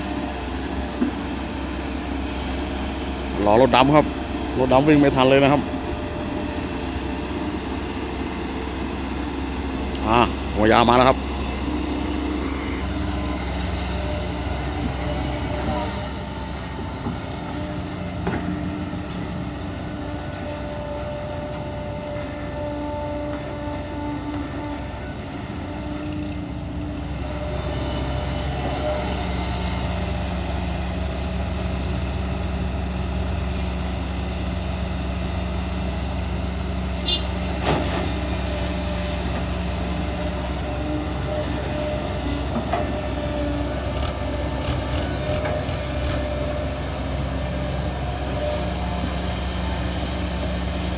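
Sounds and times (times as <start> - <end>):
excavator engine and hydraulics: 0.0 - 50.9.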